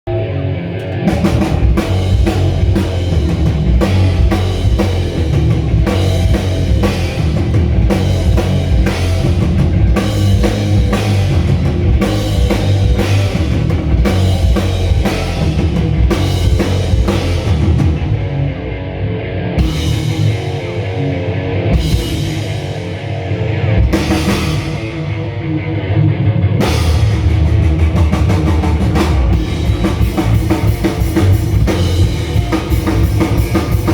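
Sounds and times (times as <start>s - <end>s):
guitar: 0.0s - 33.9s
rock band playing live: 0.2s - 33.9s
pounding drum kit: 0.8s - 18.4s, 19.6s - 21.0s, 21.7s - 25.2s, 26.6s - 33.9s.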